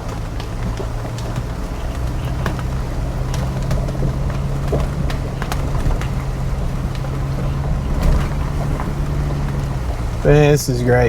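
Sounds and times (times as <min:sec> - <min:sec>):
engine running low drone: 0:00.0 - 0:11.0
sharp ticks and knocks: 0:00.0 - 0:11.0.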